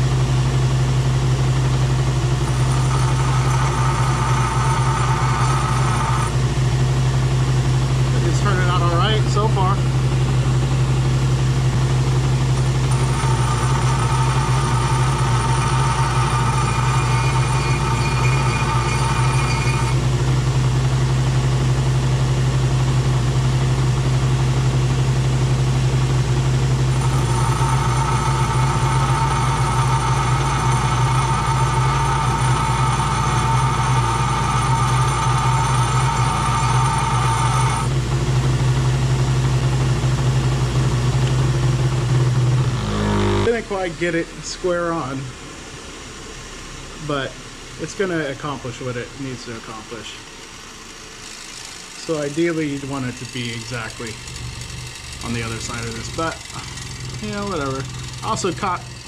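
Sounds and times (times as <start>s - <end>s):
metal part grinding whine: 2.1s - 7.4s, 8.0s - 10.3s, 11.1s - 22.7s, 23.5s - 38.0s, 41.3s - 45.2s, 47.1s - 59.0s
bench grinder motor hum: 2.3s - 22.8s, 23.9s - 40.2s, 41.0s - 43.9s, 50.2s - 59.0s.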